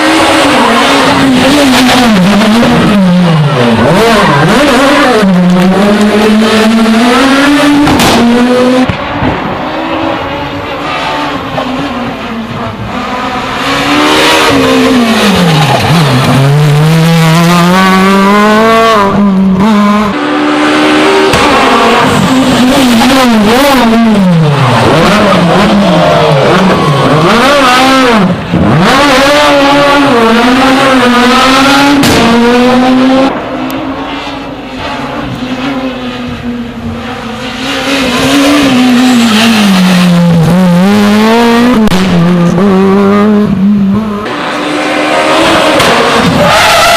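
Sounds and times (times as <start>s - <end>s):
rally cars at full throttle: 0.0s - 46.9s.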